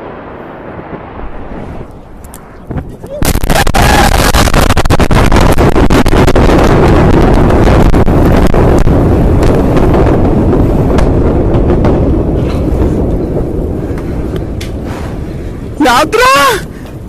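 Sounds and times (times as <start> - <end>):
explosion roar with crackling: 0.0 - 17.0.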